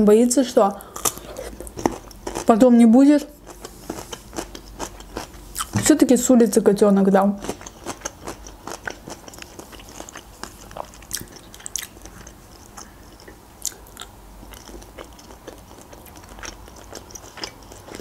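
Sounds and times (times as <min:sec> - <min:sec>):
person chewing: 0:00.8 - 0:02.5, 0:03.3 - 0:05.8, 0:07.4 - 0:18.0.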